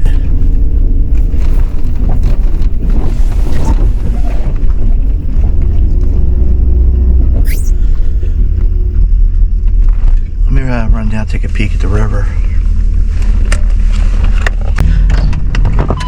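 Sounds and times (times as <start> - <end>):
truck driving on dirt track: 0.0 - 16.0.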